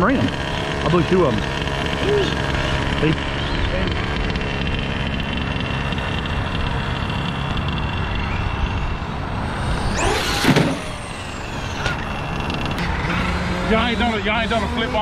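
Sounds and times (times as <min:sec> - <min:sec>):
electric motor whine: 0:00.0 - 0:15.0
rc truck driving over ground: 0:00.0 - 0:15.0.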